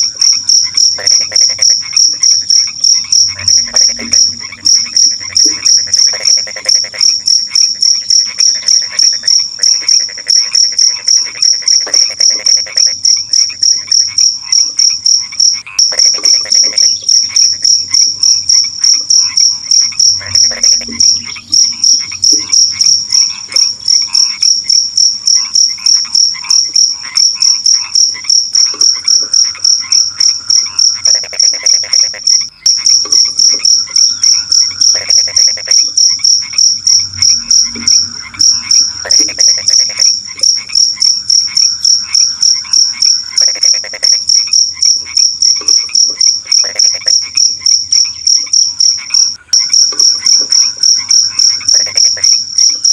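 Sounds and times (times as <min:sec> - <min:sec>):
cricket chirping: 0:00.0 - 0:52.9
frogs calling in pulsed trains: 0:00.0 - 0:52.9.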